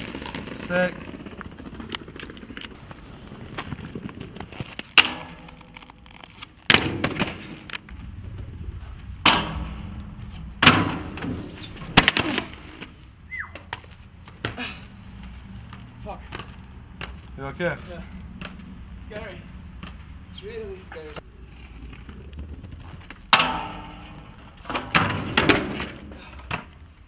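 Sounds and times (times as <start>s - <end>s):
skates clacking on ground: 0.0s - 8.0s, 9.2s - 27.0s
inline skates rolling: 0.0s - 27.0s.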